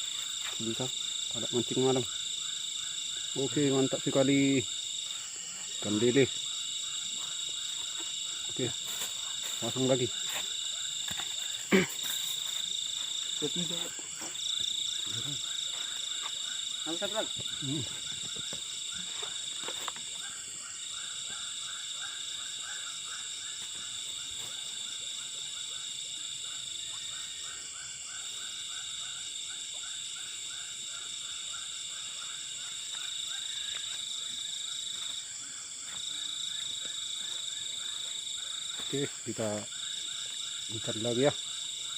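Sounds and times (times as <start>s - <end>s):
frogs croaking: 0.0s - 41.9s
high-pitched insect drone: 0.0s - 41.9s.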